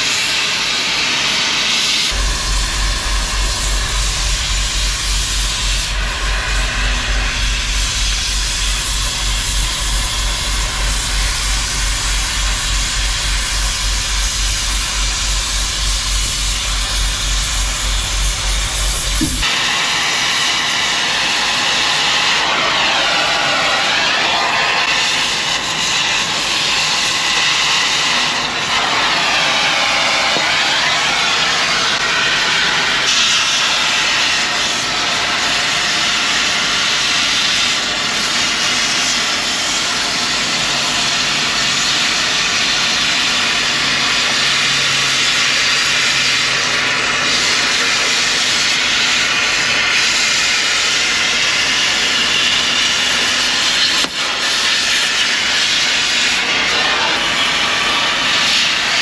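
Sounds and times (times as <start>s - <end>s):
cutting torch hissing: 0.0s - 59.0s.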